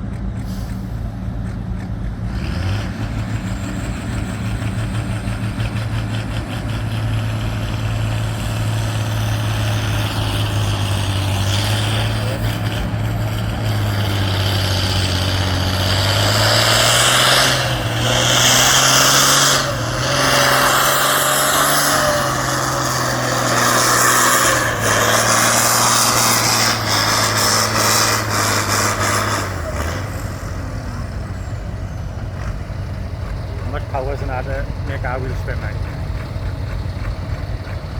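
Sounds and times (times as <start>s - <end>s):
tractor engine working hard: 0.0s - 37.9s.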